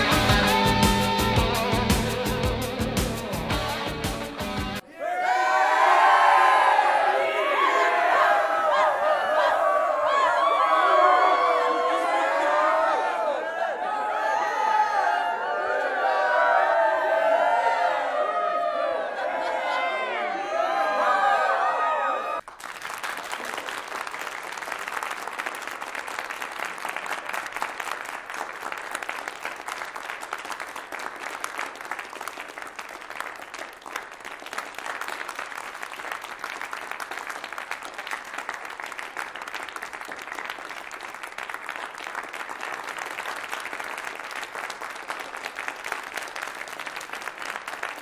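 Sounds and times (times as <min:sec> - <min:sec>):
crowd applauding: 0:00.0 - 0:04.8, 0:05.4 - 0:48.0.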